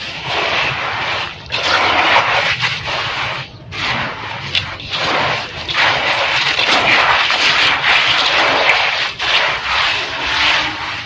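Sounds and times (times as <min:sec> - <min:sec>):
dirt crackling fizz in water: 0:00.0 - 0:11.0.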